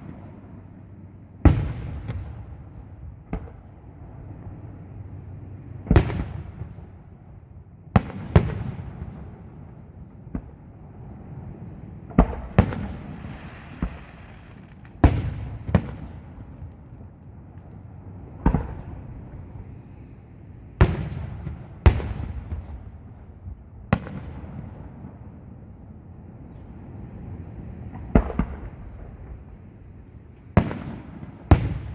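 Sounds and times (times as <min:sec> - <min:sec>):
fireworks booming with echo: 0:00.0 - 0:31.9.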